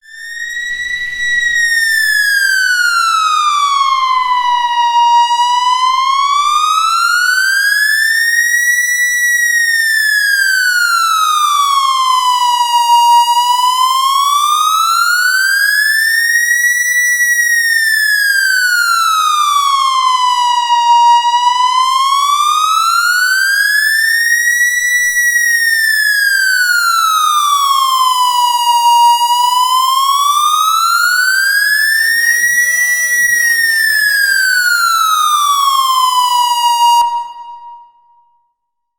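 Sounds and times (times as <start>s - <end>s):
police siren wailing: 0.6s - 8.8s, 9.4s - 15.6s, 18.1s - 38.0s.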